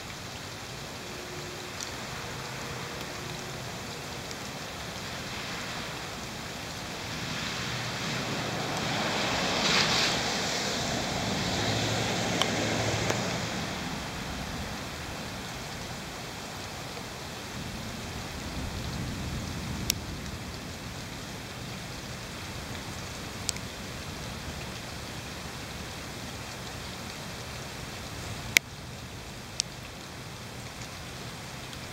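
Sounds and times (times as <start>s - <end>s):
steady rain hiss: 0.0s - 31.9s.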